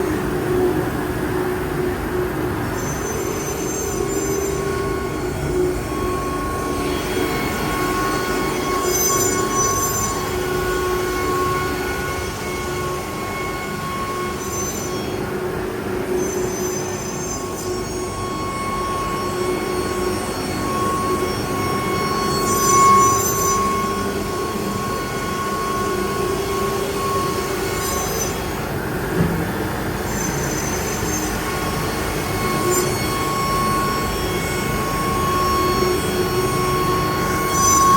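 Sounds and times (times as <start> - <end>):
router spindle whining: 0.1 - 37.9.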